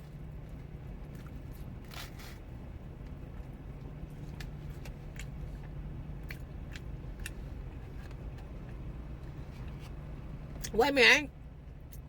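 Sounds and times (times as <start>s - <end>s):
chewing and biting: 0.0s - 10.0s.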